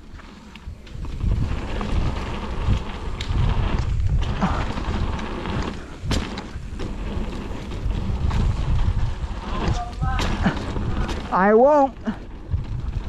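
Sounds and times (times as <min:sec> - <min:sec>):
bike clattering over rough ground: 0:00.0 - 0:13.0
wind buffeting microphone: 0:00.0 - 0:13.0.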